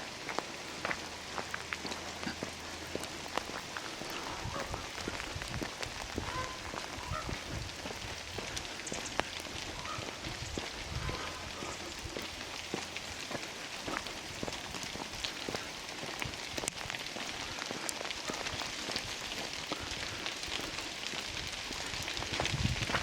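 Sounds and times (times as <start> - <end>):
raindrops ticking: 0.0 - 23.0
steady rain falling: 0.0 - 23.0.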